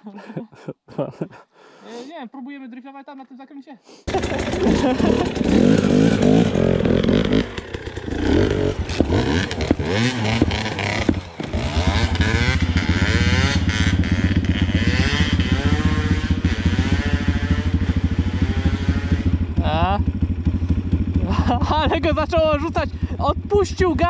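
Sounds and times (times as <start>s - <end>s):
pitbike engine revving: 4.1s - 24.0s.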